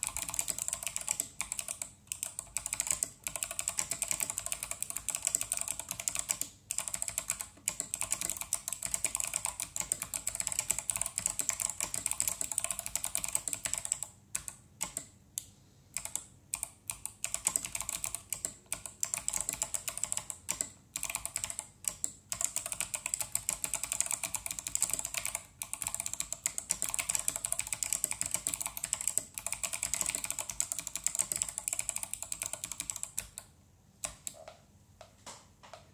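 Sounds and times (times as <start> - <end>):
mechanical keyboard typing: 0.0 - 34.5.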